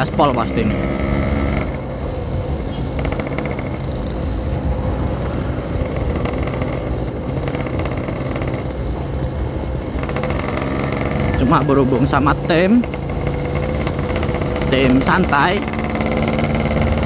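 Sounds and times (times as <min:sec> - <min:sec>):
motorcycle two-stroke engine cruising: 0:00.0 - 0:17.0.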